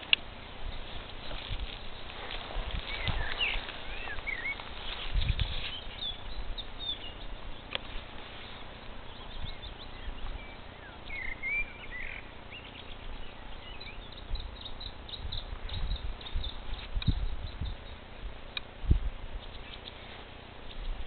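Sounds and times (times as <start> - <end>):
songbirds singing: 0.0 - 21.0
steady hiss: 0.0 - 21.0.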